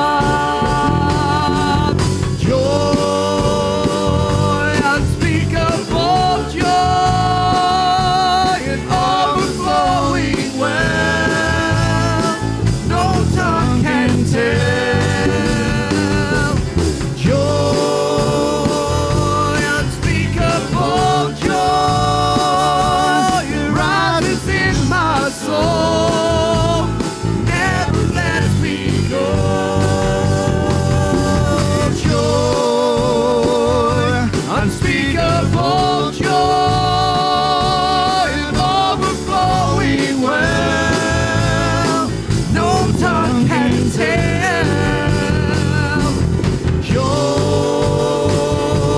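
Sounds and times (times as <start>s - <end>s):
church band accompaniment: 0.0s - 48.9s
person singing with vibrato: 0.0s - 48.9s.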